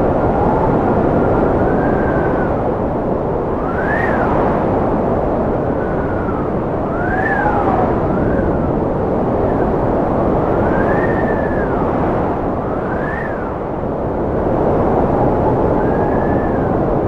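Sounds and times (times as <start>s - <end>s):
wind howling: 0.0s - 17.0s.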